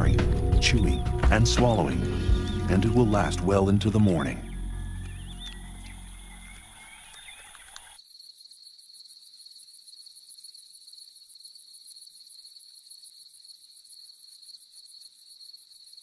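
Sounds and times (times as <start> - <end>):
high pulsing insect sound: 0.0 - 15.9
night insects trilling: 0.0 - 16.0.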